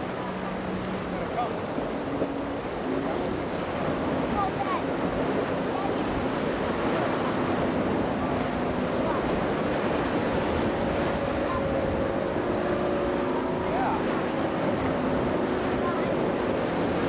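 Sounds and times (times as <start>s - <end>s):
faint boat engines droning: 0.0s - 17.0s
surf rushing: 0.0s - 17.0s
wind buffeting microphone: 0.0s - 17.0s.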